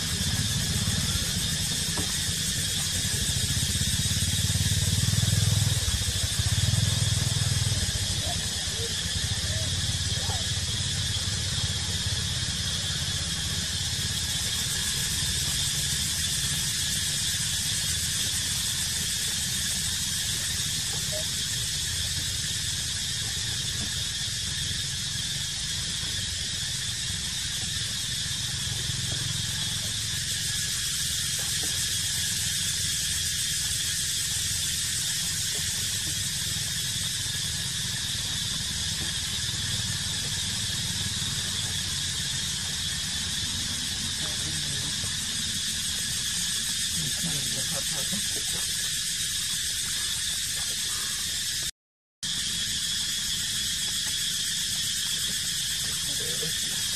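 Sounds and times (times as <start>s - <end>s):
high-pitched insect drone: 0.0s - 56.9s.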